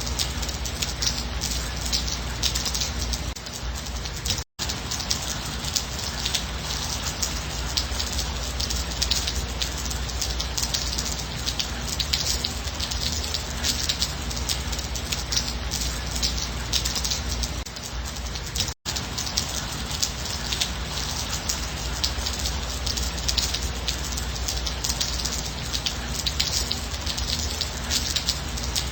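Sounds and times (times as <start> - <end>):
rain drops pattering: 0.0 - 28.9.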